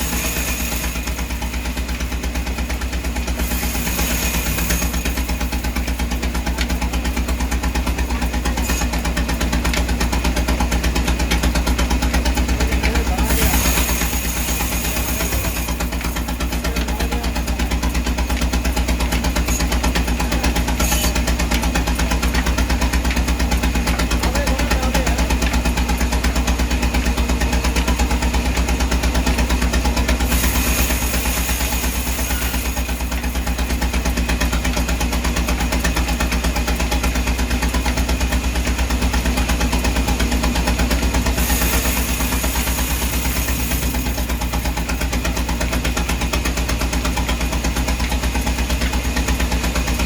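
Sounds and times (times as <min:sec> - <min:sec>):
engine running steadily: 0:00.0 - 0:50.0.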